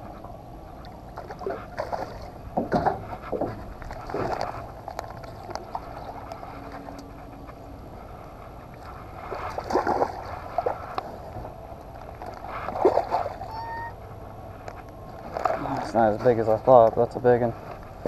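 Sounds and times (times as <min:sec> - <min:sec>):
water sloshing against boat: 0:00.0 - 0:18.0.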